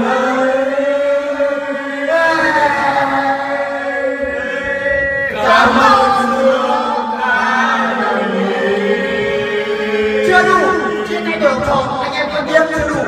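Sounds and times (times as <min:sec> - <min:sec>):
group of people singing karaoke: 0:00.0 - 0:13.0.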